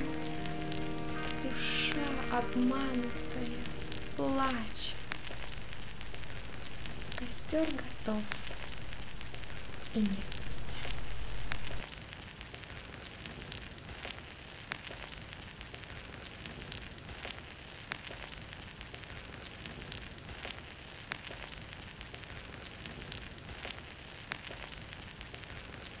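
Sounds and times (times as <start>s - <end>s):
bonfire crackling: 0.0s - 26.0s.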